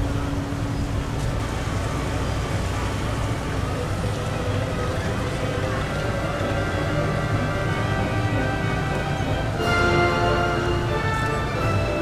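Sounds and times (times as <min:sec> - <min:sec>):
faint steady tones: 0:00.0 - 0:12.0
low rumbling background noise: 0:00.0 - 0:12.0.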